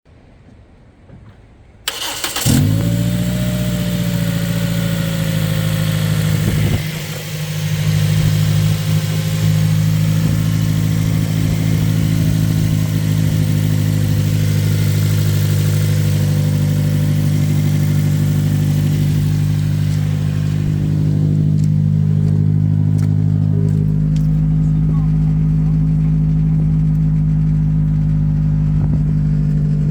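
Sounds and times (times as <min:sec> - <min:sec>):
car engine starting: 0:01.8 - 0:29.9
car engine idling: 0:01.9 - 0:29.9.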